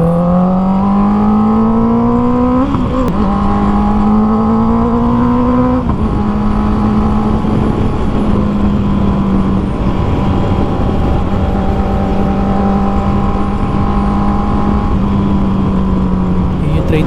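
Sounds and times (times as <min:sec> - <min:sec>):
motorcycle engine revving: 0:00.0 - 0:17.0
wind rush: 0:00.6 - 0:17.0.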